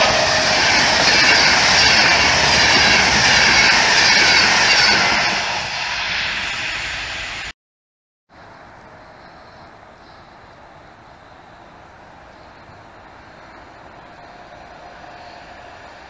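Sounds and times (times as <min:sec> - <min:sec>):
passenger train passing: 0:00.0 - 0:07.5, 0:08.4 - 0:16.0.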